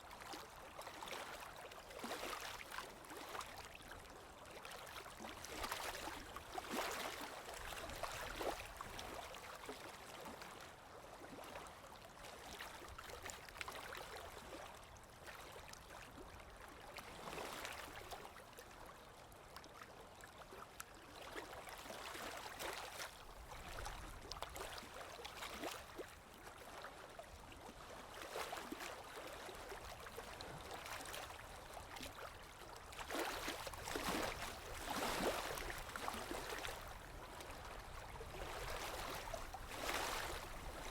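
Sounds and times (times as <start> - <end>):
small waves lapping on shore: 0.0 - 40.9.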